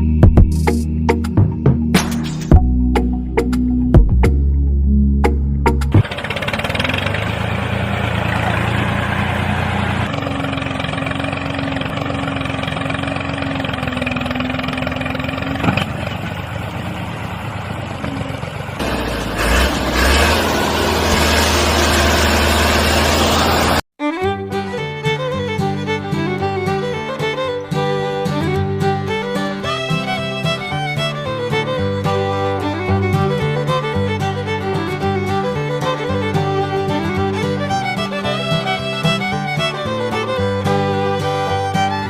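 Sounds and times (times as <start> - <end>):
engine running steadily: 5.8 - 23.8, 24.6 - 42.0.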